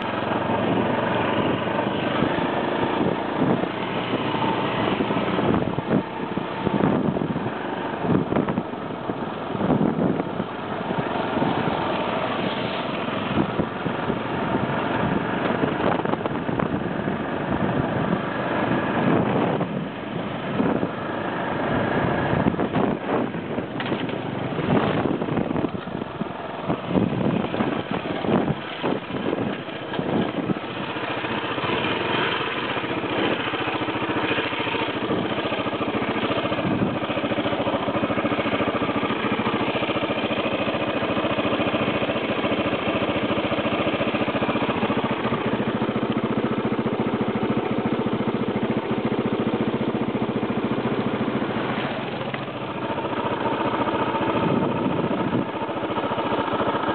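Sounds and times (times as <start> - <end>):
knocks and wind buffeting: 0.0 - 56.9
motorcycle engine running: 0.0 - 56.9.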